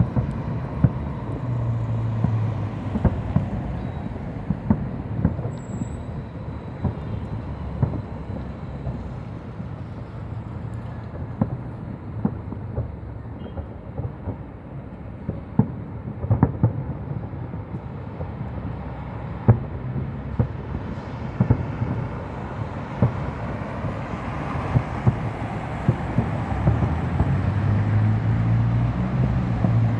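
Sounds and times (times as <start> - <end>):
fireworks bangs: 0.0 - 29.9.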